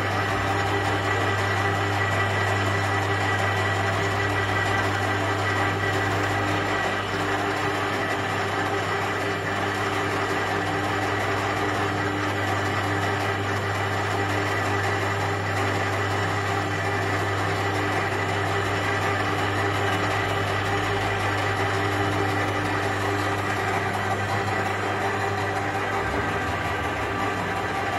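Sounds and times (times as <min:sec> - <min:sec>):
pipe bender electric hum: 0:00.0 - 0:27.9.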